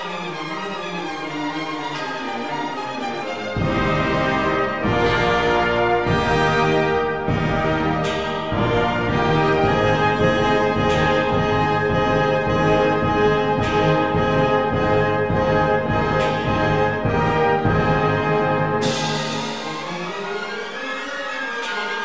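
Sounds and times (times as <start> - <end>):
orchestral music led by brass: 0.0 - 22.0.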